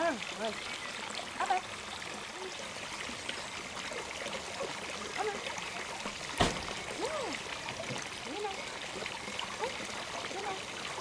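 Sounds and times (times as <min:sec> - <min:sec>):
rushing water noise: 0:00.0 - 0:11.0.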